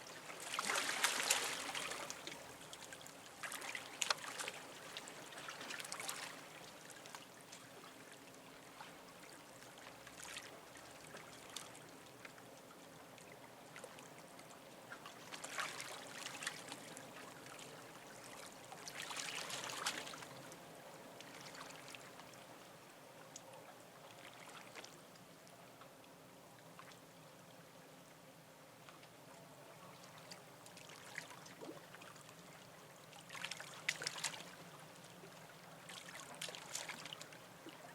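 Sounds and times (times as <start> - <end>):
small waves lapping: 0.0 - 27.7, 28.8 - 37.9
faint steady hum: 0.0 - 37.9.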